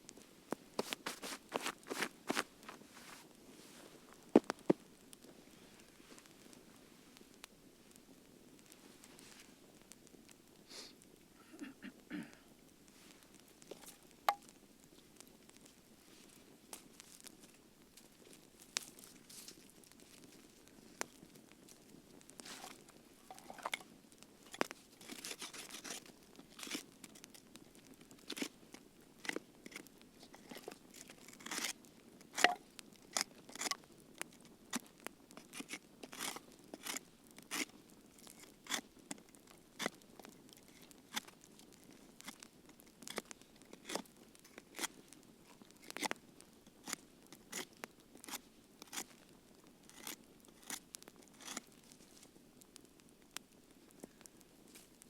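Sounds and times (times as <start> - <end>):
campfire crackling and popping: 0.0 - 55.0
soft hiss of burning: 0.0 - 55.0.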